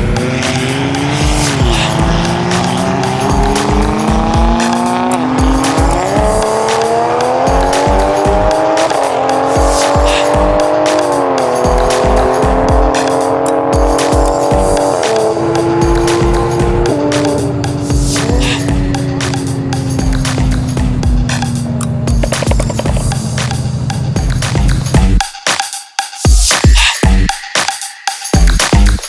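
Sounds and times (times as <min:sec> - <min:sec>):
car engine at full throttle: 0:00.0 - 0:25.2
music with thumping beat: 0:00.0 - 0:29.0.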